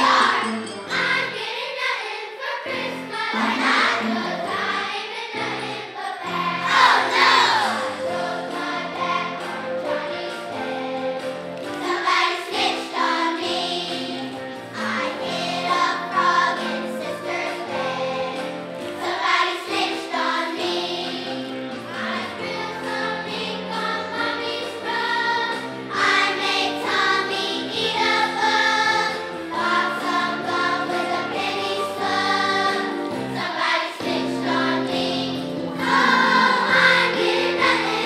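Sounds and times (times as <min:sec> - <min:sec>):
children's choir singing: 0:00.0 - 0:38.0.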